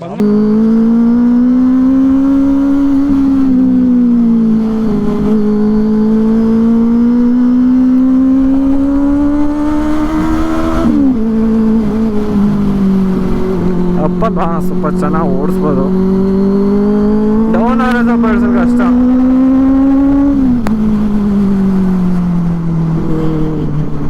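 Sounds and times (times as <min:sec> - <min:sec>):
motorcycle engine under throttle: 0:00.0 - 0:24.0.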